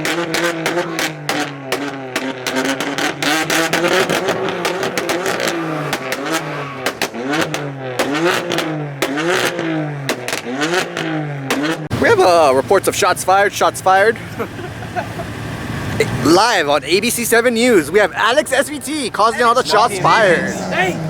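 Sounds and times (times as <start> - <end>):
exhaust pops crackling: 0.0 - 19.9
car engine revving: 0.0 - 21.0.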